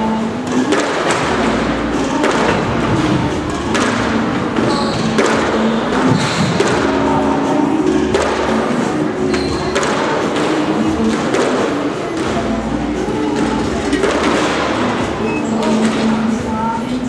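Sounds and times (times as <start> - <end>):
squash ball hitting walls: 0.0 - 16.5.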